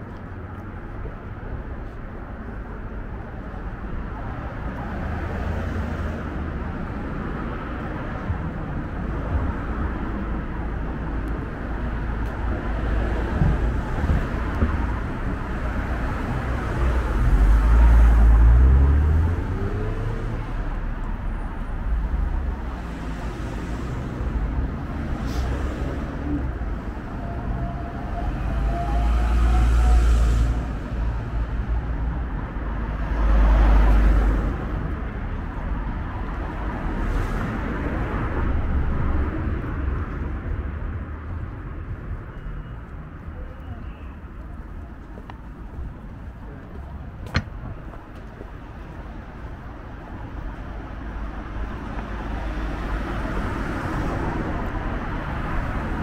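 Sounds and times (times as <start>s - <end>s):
cars passing: 0.0s - 56.0s
louder vehicles rumbling past: 2.2s - 56.0s.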